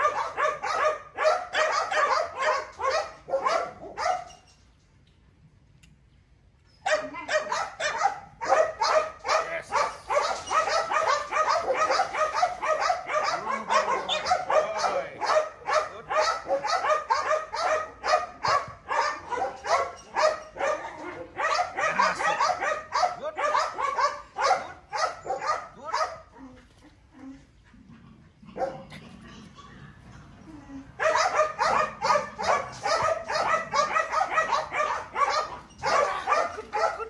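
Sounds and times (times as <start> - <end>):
dog barking rapidly: 0.0 - 4.3, 6.9 - 26.3, 28.6 - 28.8, 31.0 - 37.0.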